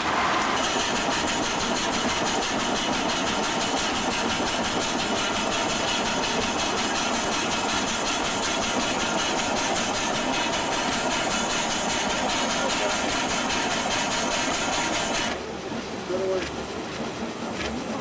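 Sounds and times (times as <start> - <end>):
steam engine running: 0.0 - 18.0.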